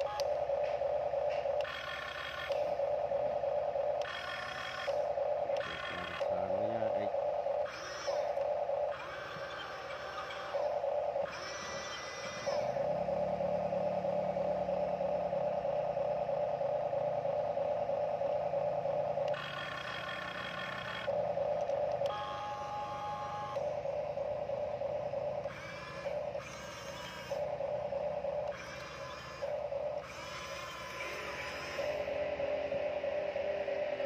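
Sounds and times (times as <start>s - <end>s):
toy electric motors whining: 0.0s - 34.0s.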